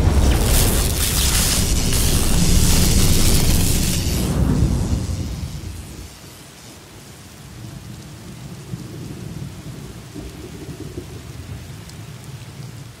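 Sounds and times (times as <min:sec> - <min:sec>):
low rumble of thunder: 0:00.0 - 0:06.3, 0:08.2 - 0:12.3
steady rain: 0:00.0 - 0:13.0.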